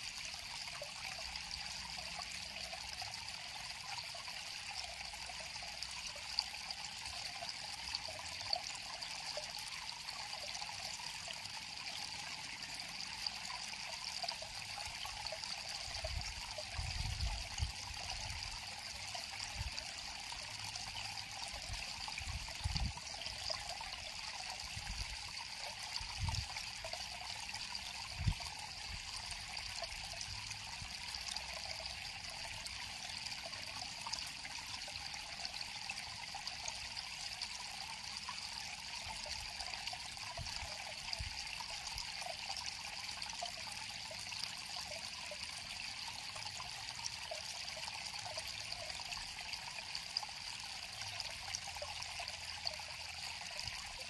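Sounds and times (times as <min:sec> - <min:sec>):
river water trickling: 0:00.0 - 0:54.0.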